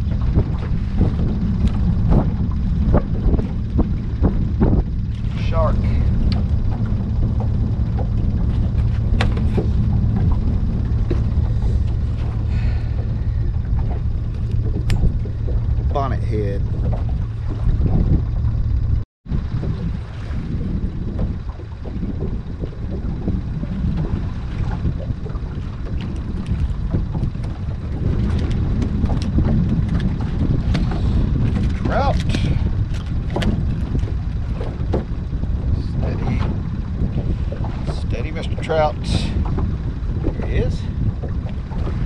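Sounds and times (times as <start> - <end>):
clicks and knocks on boat: 0.0 - 42.0
wind rumble on microphone: 0.0 - 42.0.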